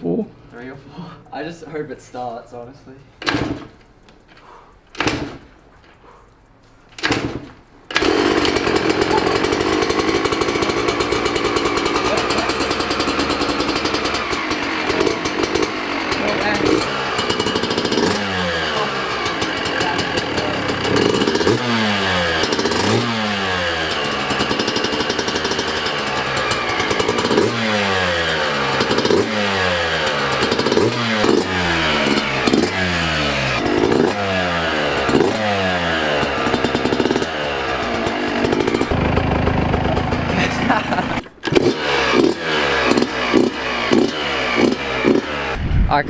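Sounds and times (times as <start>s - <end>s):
two-stroke engine revving: 7.0s - 45.7s.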